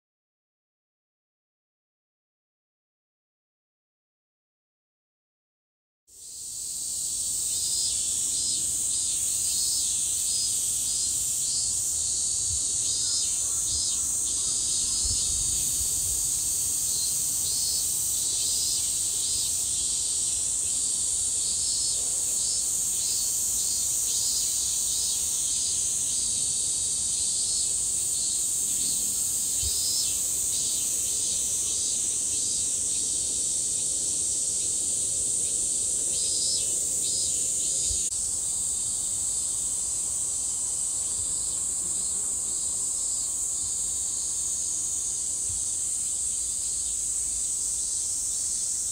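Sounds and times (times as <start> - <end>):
insects singing: 6.3 - 48.9.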